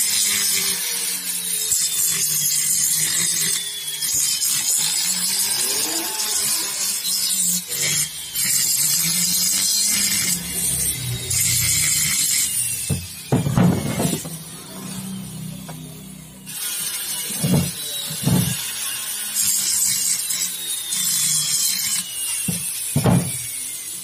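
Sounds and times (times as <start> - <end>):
grinder whirring hiss: 0.0 - 24.0.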